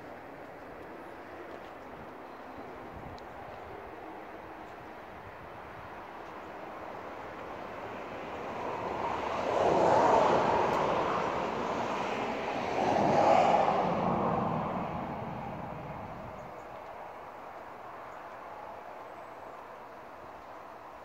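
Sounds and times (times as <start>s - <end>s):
vehicles passing by: 0.2s - 21.0s.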